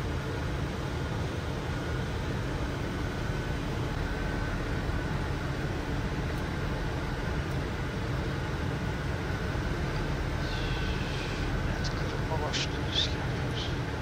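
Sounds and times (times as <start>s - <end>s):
faint steady tone: 0.0s - 14.0s
rushing cockpit noise: 0.2s - 14.0s.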